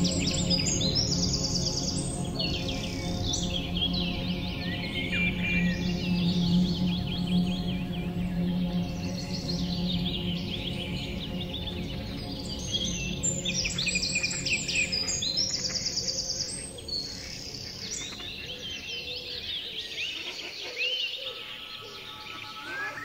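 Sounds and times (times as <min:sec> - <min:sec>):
ambient music drone: 0:00.0 - 0:23.0
songbirds chirping and trilling: 0:00.0 - 0:23.0.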